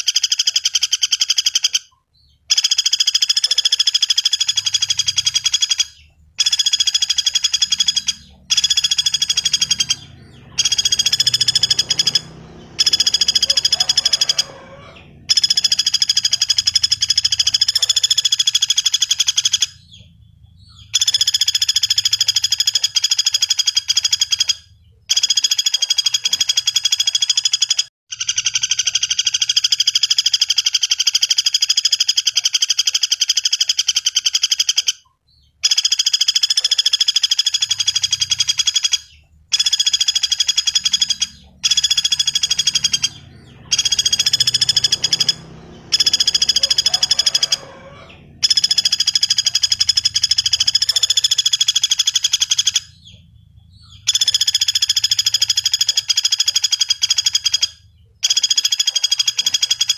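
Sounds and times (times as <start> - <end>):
woodpecker rattling trills: 0.0 - 59.9.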